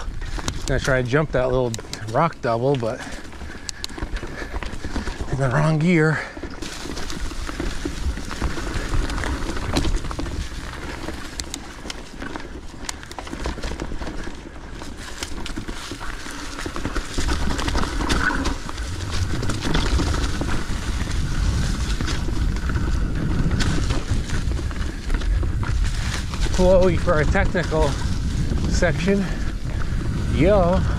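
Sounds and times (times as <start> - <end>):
tyres crunching through leaves: 0.0 - 30.9
wheels knocking on rocks: 0.0 - 30.9
wind rumble on microphone: 0.0 - 30.9.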